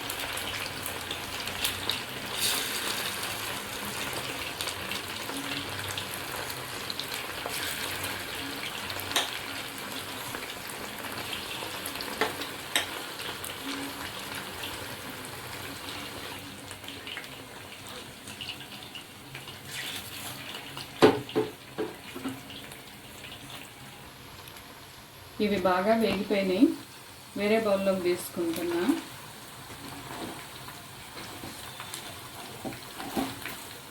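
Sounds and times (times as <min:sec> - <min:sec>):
food deep-frying in oil: 0:00.0 - 0:33.9.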